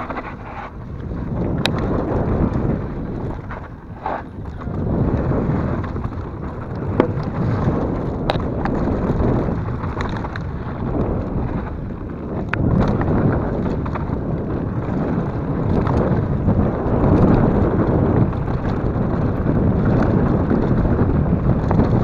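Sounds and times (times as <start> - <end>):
bike clicks and rattles: 0.0 - 22.0
bike tyres rumbling on dirt: 0.0 - 22.0
wind buffeting microphone: 0.0 - 22.0.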